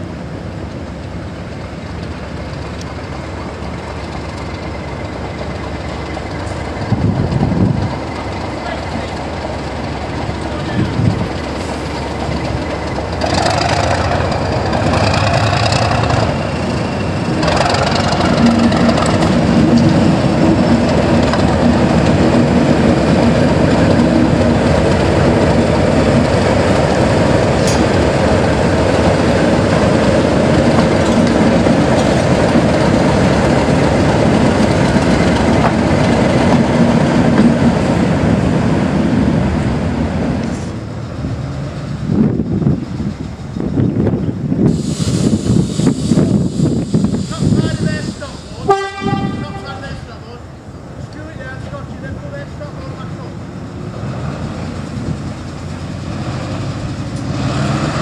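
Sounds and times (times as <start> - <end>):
diesel locomotive engine running: 0.0 - 58.0.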